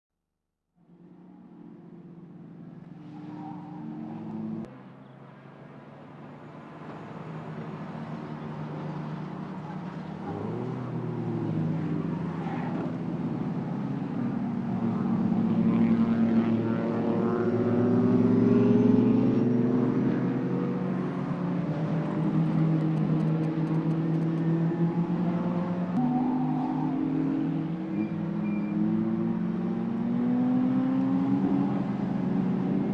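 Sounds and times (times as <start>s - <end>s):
racing car engines running hard: 0.9s - 32.9s.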